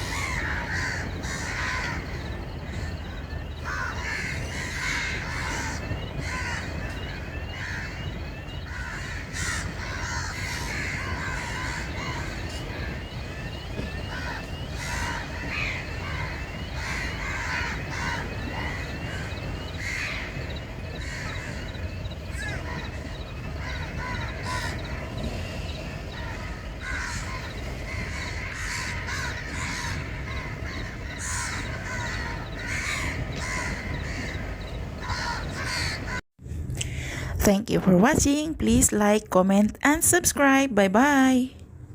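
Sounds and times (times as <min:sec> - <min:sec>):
flock of birds calling: 0:00.0 - 0:36.2.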